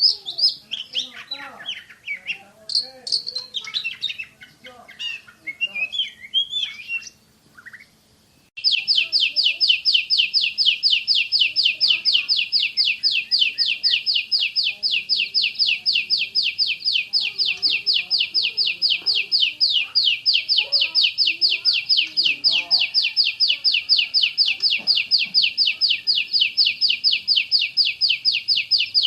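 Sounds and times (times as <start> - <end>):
bird singing rapid sharp notes: 0.0 - 29.0.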